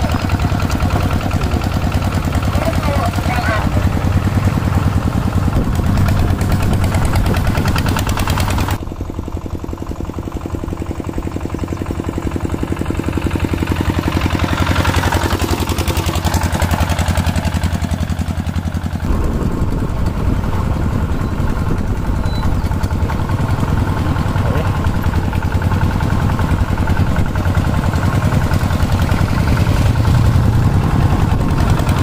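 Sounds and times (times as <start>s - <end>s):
diesel tractor engine chugging: 0.0s - 32.0s.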